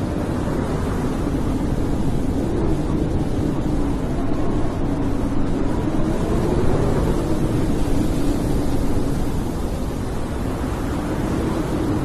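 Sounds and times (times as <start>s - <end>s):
blizzard wind rumbling: 0.0s - 12.0s
low moaning wind howl: 0.0s - 12.0s.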